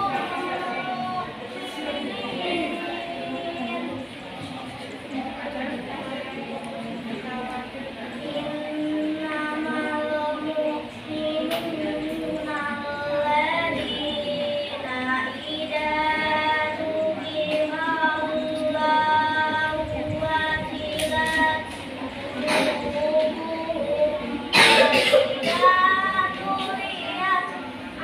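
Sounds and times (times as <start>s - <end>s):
girl chanting melodically: 0.0s - 4.1s, 7.2s - 28.0s.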